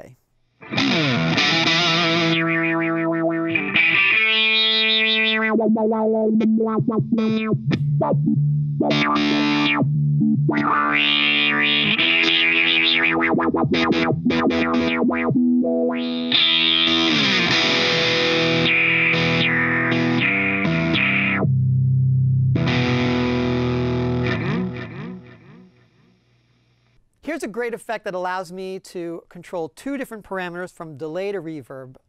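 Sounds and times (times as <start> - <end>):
distorted electric guitar with echo: 0.6 - 27.0.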